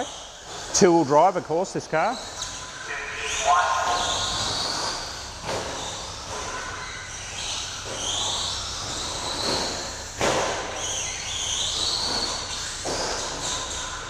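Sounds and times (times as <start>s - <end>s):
rc truck electric motor whining: 2.0s - 14.0s.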